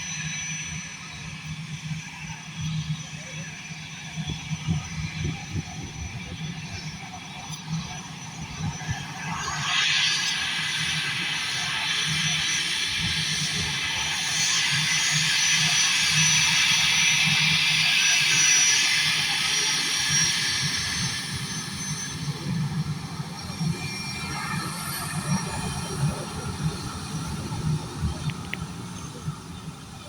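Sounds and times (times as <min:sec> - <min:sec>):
jet engines hissing and whining: 0:00.0 - 0:30.0.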